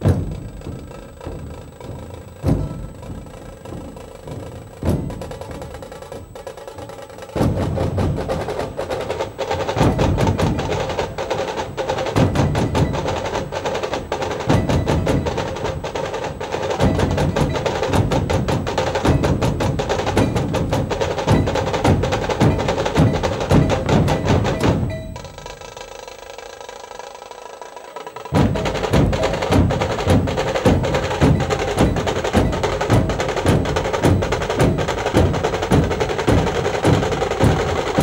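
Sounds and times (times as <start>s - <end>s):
barrel drums beaten with sticks: 0.0s - 38.0s.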